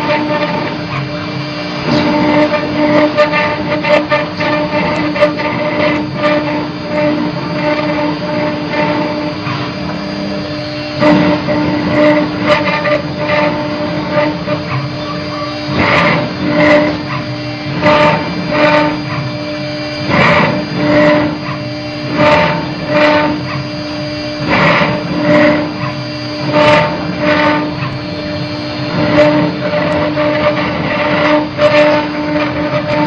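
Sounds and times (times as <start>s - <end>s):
machine hum: 0.0s - 33.0s
router cutter rasping: 0.0s - 33.0s.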